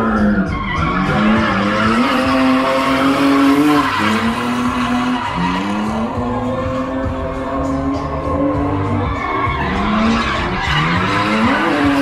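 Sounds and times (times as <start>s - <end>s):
car engine revving: 0.0s - 12.0s
tyres squealing and skidding: 0.0s - 12.0s.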